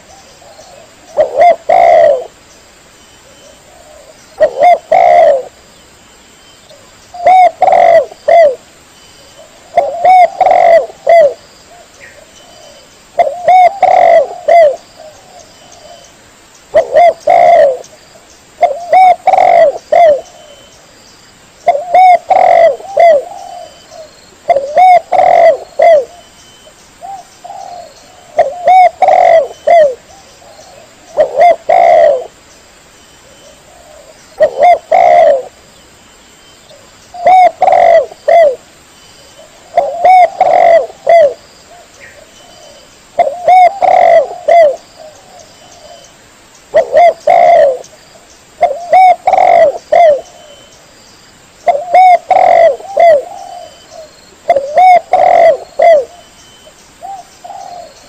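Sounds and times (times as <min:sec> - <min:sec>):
dove cooing: 0:00.0 - 0:02.4, 0:03.2 - 0:05.6, 0:06.7 - 0:08.6, 0:09.4 - 0:16.1, 0:16.7 - 0:17.9, 0:18.6 - 0:20.7, 0:21.6 - 0:26.3, 0:27.0 - 0:32.4, 0:33.2 - 0:35.6, 0:36.7 - 0:38.7, 0:39.4 - 0:46.1, 0:46.7 - 0:48.0, 0:48.6 - 0:50.7, 0:51.6 - 0:56.3, 0:57.0 - 0:58.0.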